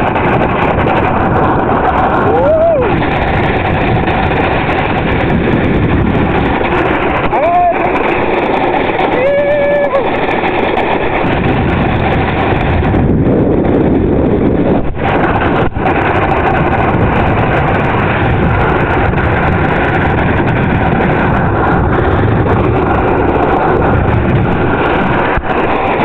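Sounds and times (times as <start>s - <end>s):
wind roaring on microphone: 0.0s - 26.0s.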